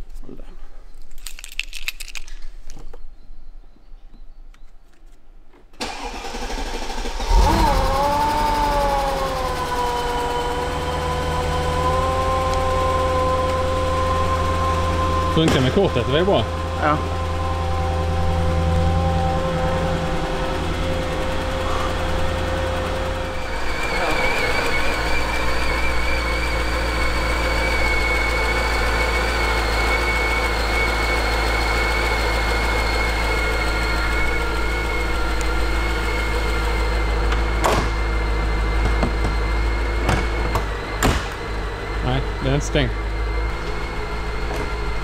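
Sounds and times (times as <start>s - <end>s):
fuel dispenser motor hum: 5.8s - 45.0s
high whine of fuel flowing: 5.8s - 45.0s.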